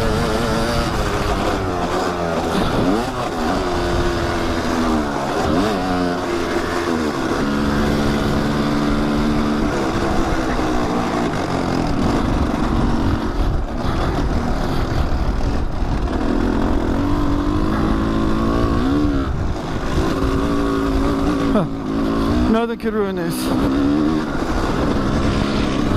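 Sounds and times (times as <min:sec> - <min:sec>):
dirt bike engine: 0:00.0 - 0:25.9
rough noisy rumble: 0:00.0 - 0:25.9.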